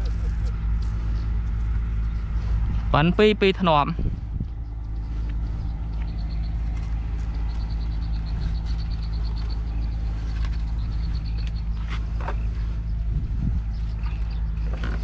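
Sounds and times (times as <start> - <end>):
high pulsing chirp: 0.0 - 15.0
small engine humming: 0.0 - 15.0.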